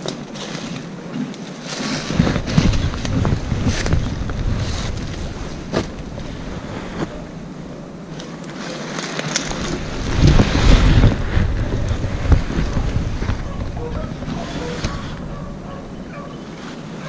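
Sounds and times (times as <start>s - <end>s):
wind buffeting microphone: 2.0s - 8.2s, 9.4s - 17.0s.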